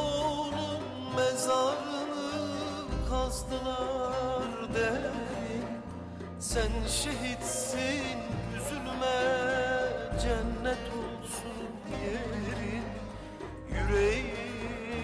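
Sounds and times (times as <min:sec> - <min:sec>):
slow melody with bass notes: 0:00.0 - 0:15.0.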